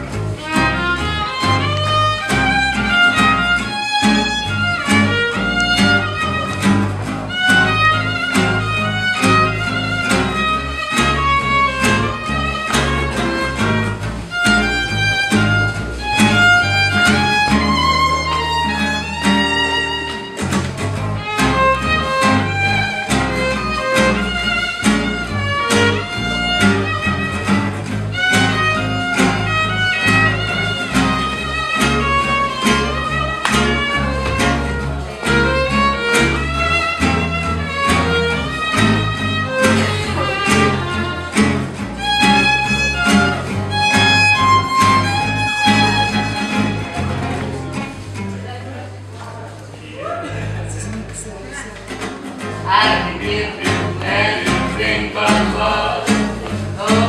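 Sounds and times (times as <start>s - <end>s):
violin melody: 0.0s - 47.8s
strummed rhythm guitars: 0.0s - 49.1s, 50.2s - 57.0s
walking acoustic bass: 0.0s - 57.0s.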